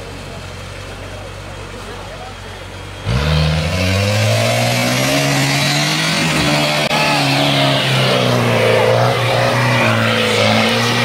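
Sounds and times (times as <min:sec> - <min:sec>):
jeep engine running under load: 0:00.0 - 0:11.0.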